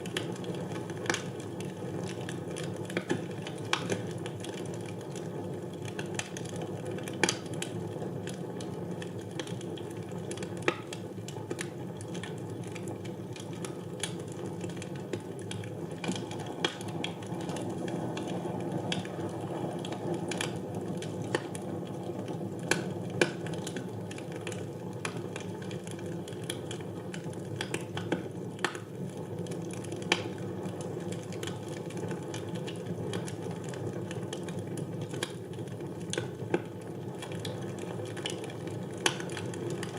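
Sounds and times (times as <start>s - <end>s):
fire crackling and popping: 0.0s - 39.9s
fire flames rustling: 0.0s - 39.9s.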